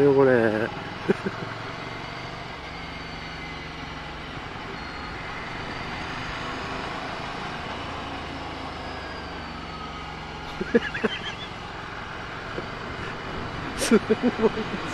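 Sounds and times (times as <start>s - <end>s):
wind and road noise: 0.0s - 14.9s.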